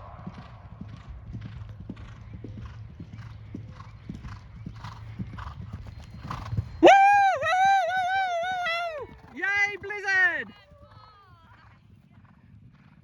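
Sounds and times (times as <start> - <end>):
horse hooves galloping on turf: 0.0 - 13.0.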